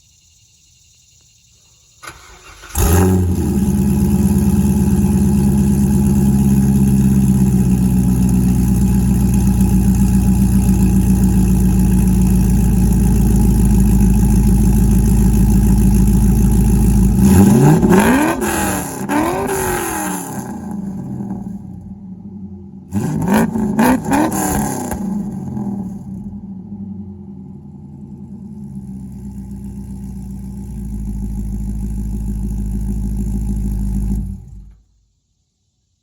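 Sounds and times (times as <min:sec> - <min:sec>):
engine revving: 0:02.0 - 0:34.8
car engine starting and idling: 0:02.0 - 0:34.9.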